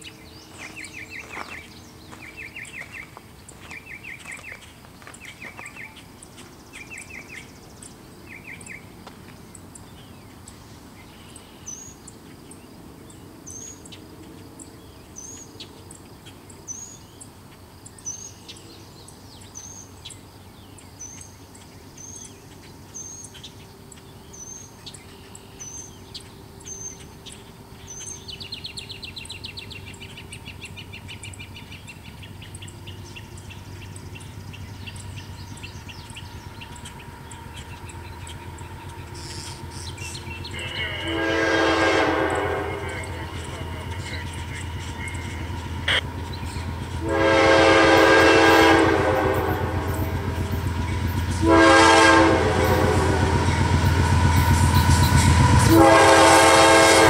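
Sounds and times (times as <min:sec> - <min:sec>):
songbirds singing trills: 0:00.0 - 0:56.7.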